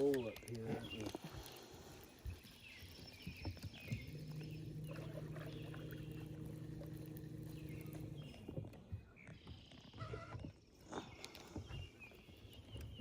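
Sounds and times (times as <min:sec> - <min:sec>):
birds chirping: 0:00.0 - 0:13.0
boat motor humming: 0:00.0 - 0:13.0.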